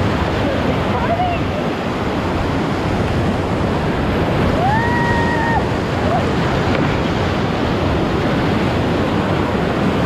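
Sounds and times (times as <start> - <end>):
whitewater rushing: 0.0 - 10.0.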